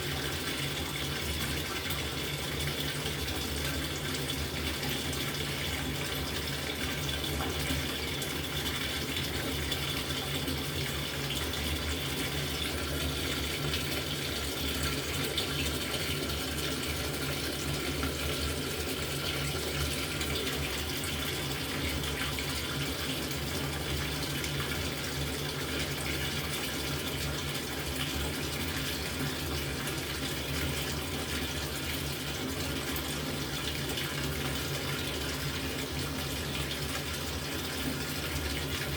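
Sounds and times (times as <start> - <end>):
washing machine filling with water: 0.0 - 38.9.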